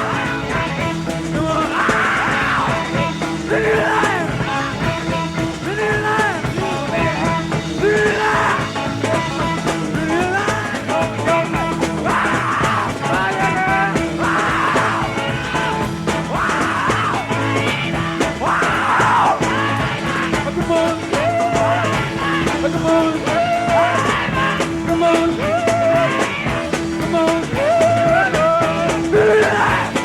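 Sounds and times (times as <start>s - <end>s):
loud rock music: 0.0s - 30.0s.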